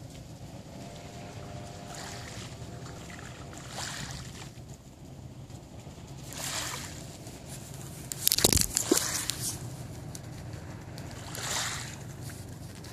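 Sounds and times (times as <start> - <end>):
small waves lapping at shore: 0.0 - 4.8, 6.1 - 12.9
crackling splash with low thump: 0.8 - 4.6, 6.2 - 12.9.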